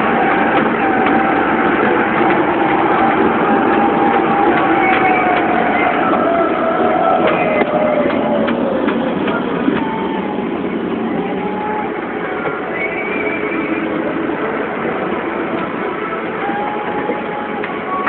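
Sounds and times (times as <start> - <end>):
faint whines: 0.0 - 18.0
tractor diesel engine under load: 0.0 - 18.0.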